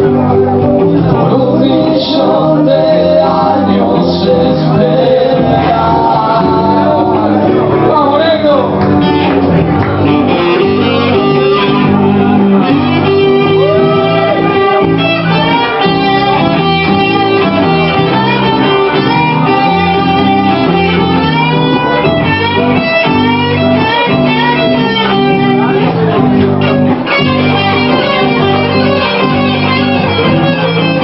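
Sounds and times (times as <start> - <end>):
lead guitar with bent notes: 0.0 - 31.0
live band playing: 0.0 - 31.0.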